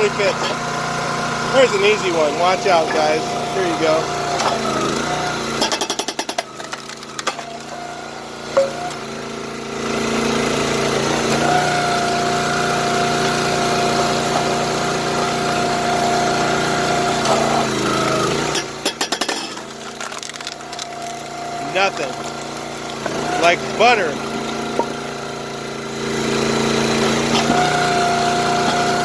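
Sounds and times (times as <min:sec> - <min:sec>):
hydraulic pump whine: 0:00.0 - 0:29.0
log splitter engine running: 0:00.0 - 0:29.0.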